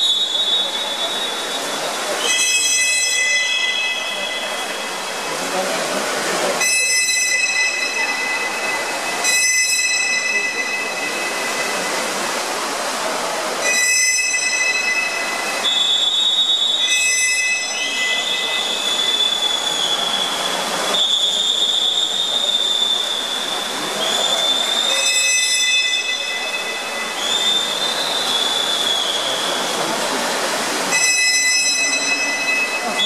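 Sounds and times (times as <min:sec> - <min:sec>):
shrill whistle blasts: 0:00.0 - 0:04.9, 0:06.6 - 0:08.5, 0:09.2 - 0:11.2, 0:13.6 - 0:29.8, 0:30.9 - 0:33.0
crowd noise: 0:00.0 - 0:33.0.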